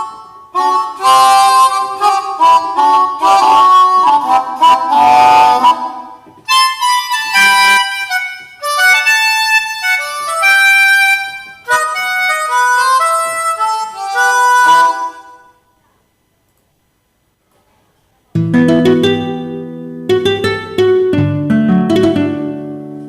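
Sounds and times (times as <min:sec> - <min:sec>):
keyboard melody with wind voice: 0:00.0 - 0:15.6, 0:18.4 - 0:23.0.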